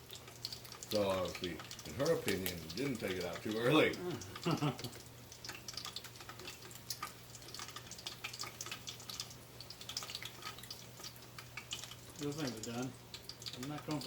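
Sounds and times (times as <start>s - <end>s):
oil crackling and popping in fryer: 0.0s - 14.0s.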